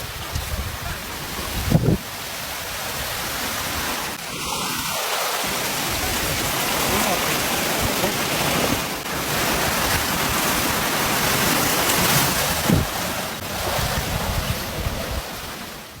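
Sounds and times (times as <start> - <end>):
wind buffeting microphone: 0.0 - 4.1, 4.7 - 16.0
water rushing: 0.0 - 16.0.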